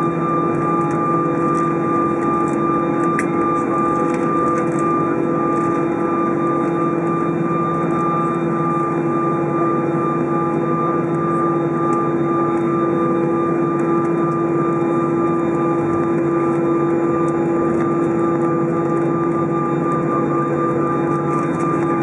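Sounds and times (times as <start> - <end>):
jet engines idling drone: 0.0 - 22.0.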